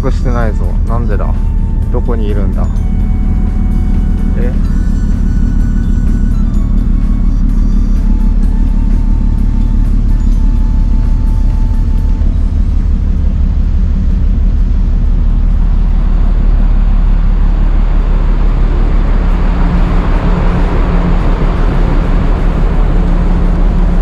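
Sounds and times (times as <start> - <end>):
low machinery hum: 0.0 - 24.0
wind buffeting microphone: 0.0 - 24.0.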